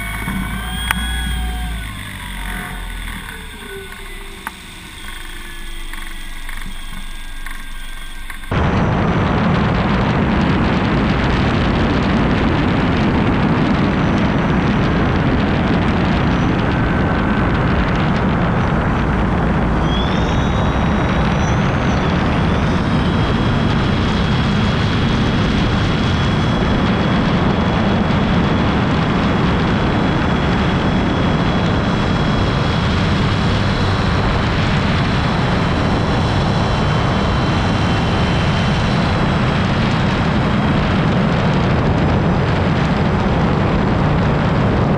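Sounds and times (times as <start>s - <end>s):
electric propeller motor whine: 0.0s - 44.8s.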